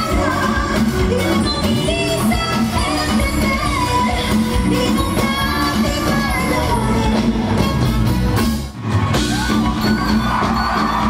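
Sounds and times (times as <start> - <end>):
drums: 0.0 - 11.0
live band playing: 0.0 - 11.0.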